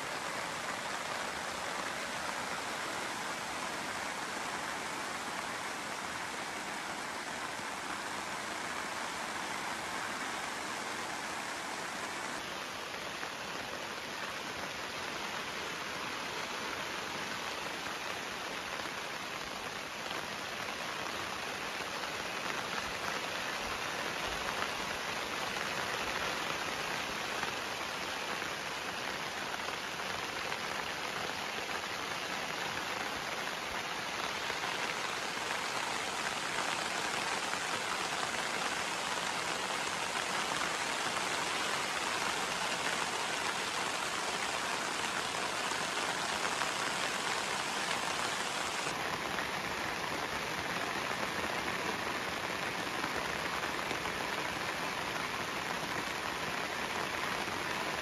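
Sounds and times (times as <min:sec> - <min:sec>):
rain falling on a tarp: 0:00.0 - 0:58.0.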